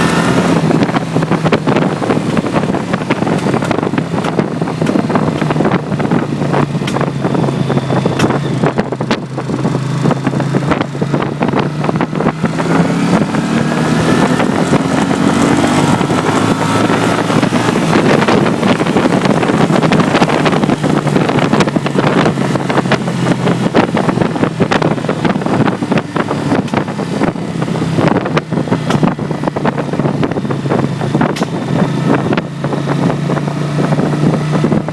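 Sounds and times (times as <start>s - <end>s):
motorcycle engine crackling: 0.0s - 34.9s
wind on microphone: 0.0s - 34.9s.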